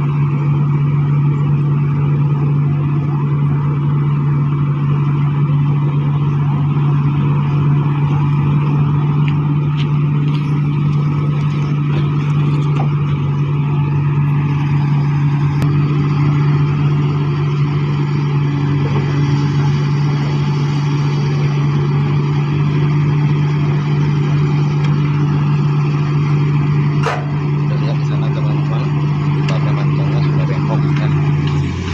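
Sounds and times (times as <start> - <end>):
vibro hammer and engine drone: 0.0 - 31.9.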